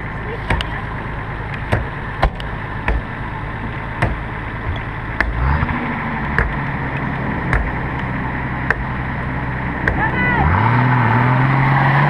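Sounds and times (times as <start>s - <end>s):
off-road engine running: 0.0s - 12.0s.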